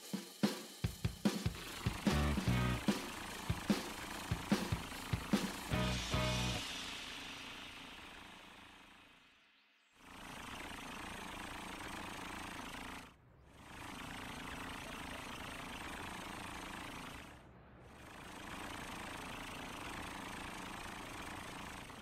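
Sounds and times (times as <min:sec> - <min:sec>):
cartoon fire truck engine running: 0:01.0 - 0:09.3, 0:10.0 - 0:22.0.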